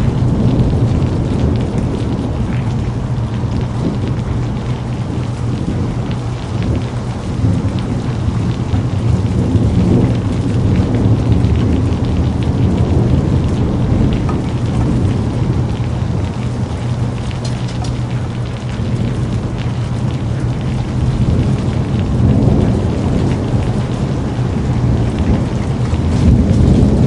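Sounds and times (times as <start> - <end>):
rolling thunder: 0.0 - 27.0
steady rain: 0.0 - 27.0.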